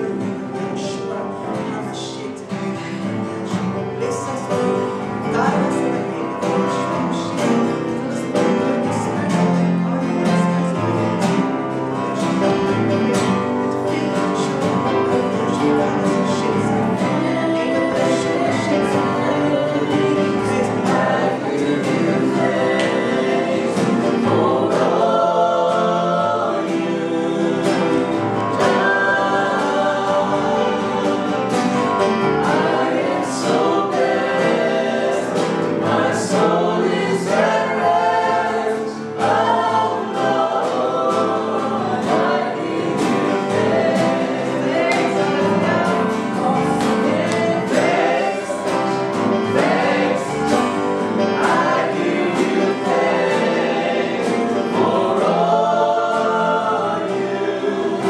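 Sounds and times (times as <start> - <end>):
choir singing gospel song: 0.0 - 58.0
held accompaniment chords: 0.0 - 58.0.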